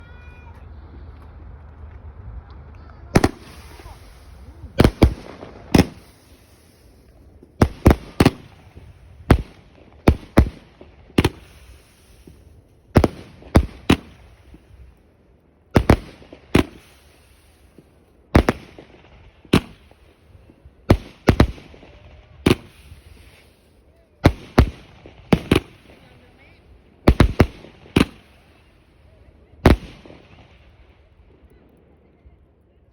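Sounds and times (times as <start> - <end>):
faint firework hiss: 0.0 - 32.8
firework bangs: 0.1 - 15.1, 15.7 - 32.0.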